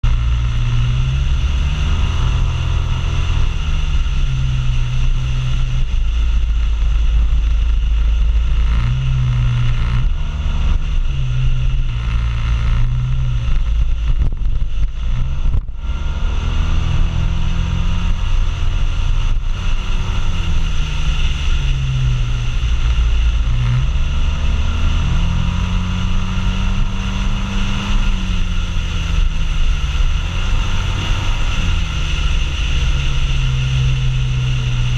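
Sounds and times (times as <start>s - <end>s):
road noise: 0.0s - 34.9s
scooter engine running: 0.0s - 34.9s
wind noise: 0.0s - 34.9s.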